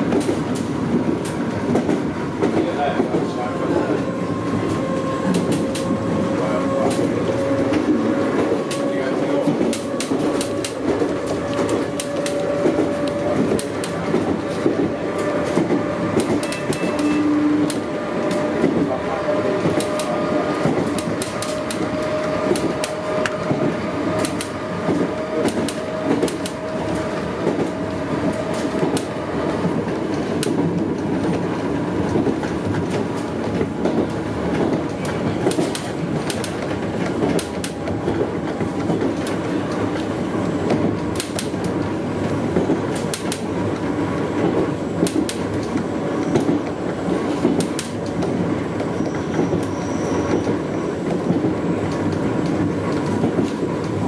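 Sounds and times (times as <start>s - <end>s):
sharp clicks of train wheels: 0.0s - 54.0s
train wheel and rail noise: 0.0s - 54.0s.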